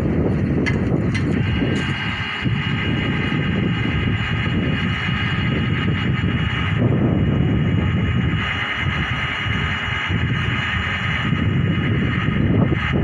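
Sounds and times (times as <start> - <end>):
drilling rig low rumble: 0.0 - 13.0
high whine: 0.0 - 13.0.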